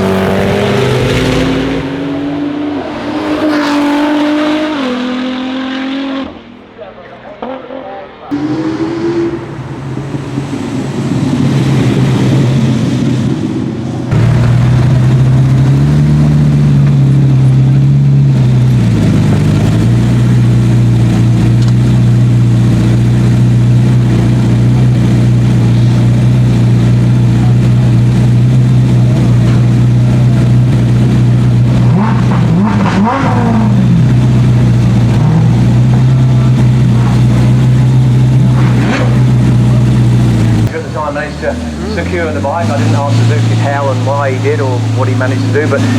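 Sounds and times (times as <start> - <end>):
engine running at steady revs: 8.3 - 45.9.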